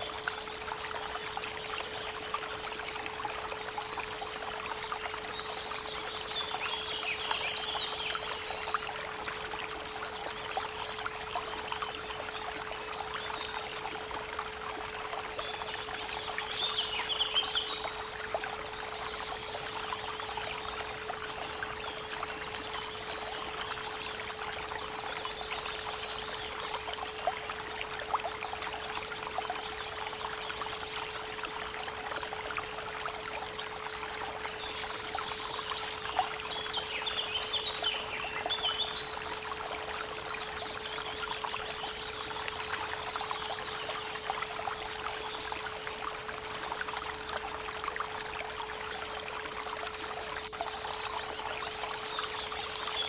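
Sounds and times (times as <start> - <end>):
creek water running: 0.0 - 53.0.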